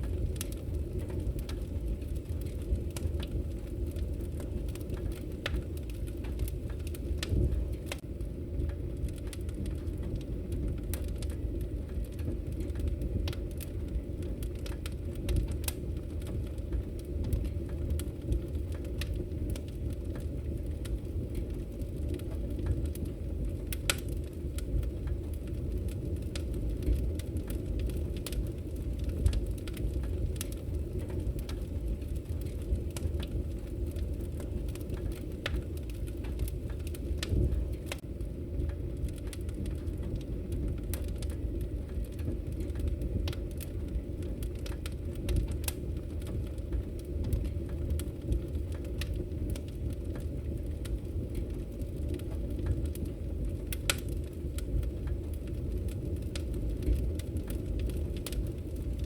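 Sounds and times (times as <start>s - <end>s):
burning logs rumbling: 0.0s - 59.0s
fire popping: 0.0s - 59.0s.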